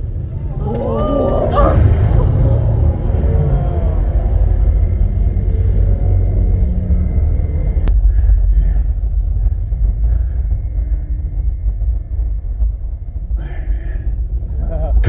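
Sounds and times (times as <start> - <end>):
film soundtrack rumble: 0.0 - 15.0.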